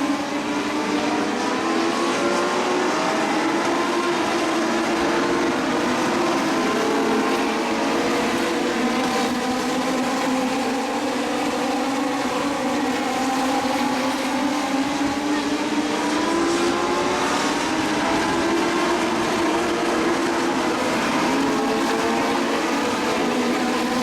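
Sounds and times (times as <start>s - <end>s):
race car engines running hard: 0.0s - 24.0s.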